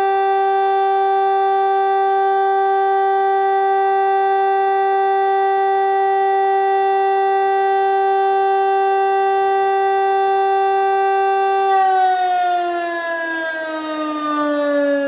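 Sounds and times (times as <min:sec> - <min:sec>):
siren steady tone winding down: 0:00.0 - 0:15.0.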